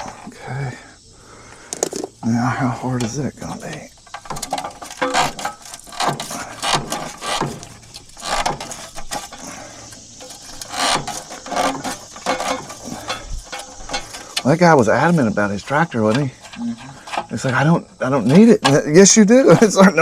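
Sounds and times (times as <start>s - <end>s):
hand tools clicking and scraping metal: 0.0s - 0.4s, 1.6s - 20.0s.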